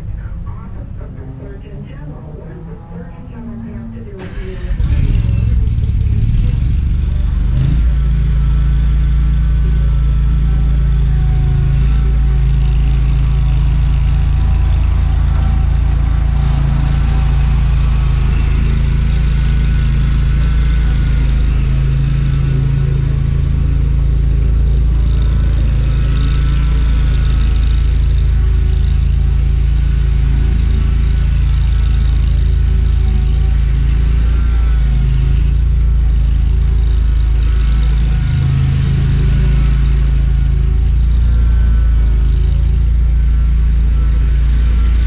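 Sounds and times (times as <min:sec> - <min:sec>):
mower engine running: 0:00.0 - 0:45.0.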